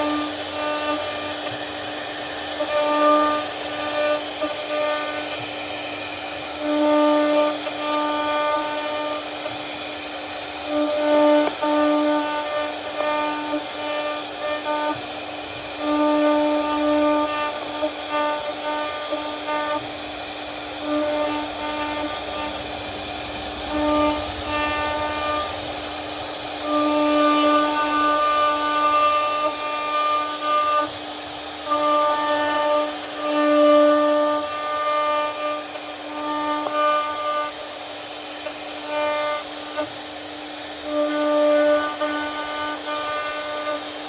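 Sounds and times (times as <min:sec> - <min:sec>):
bit cutting wood hissing: 0:00.0 - 0:44.0
router spindle whining: 0:00.0 - 0:44.0.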